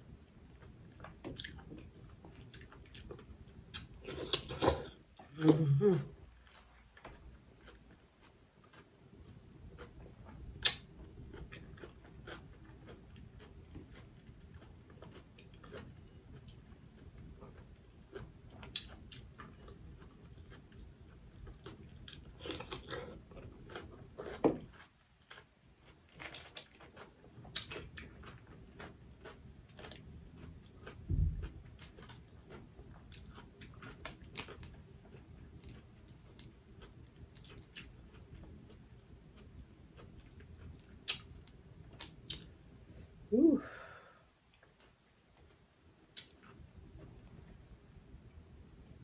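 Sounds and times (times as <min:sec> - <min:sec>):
wet chewing clicks and smacks: 0:00.6 - 0:04.4, 0:06.4 - 0:42.5.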